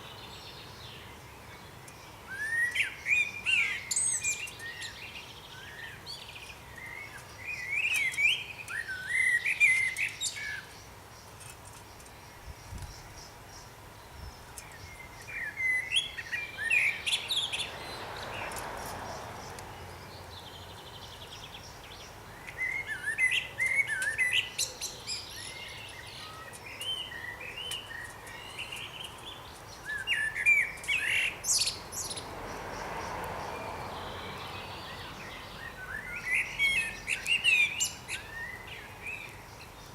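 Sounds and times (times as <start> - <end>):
soft rushing hiss: 0.0 - 32.6
songbirds chirping: 0.0 - 39.9.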